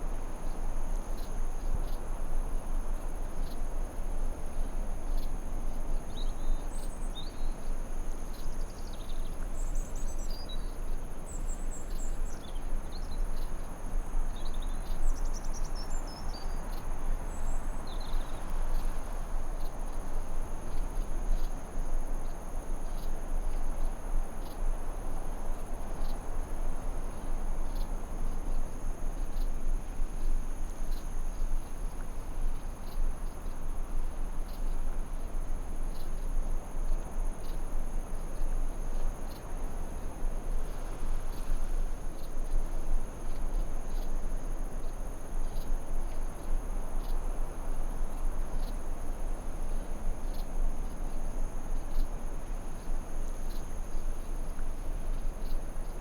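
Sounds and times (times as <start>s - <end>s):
soft rushing hiss: 0.0s - 56.0s.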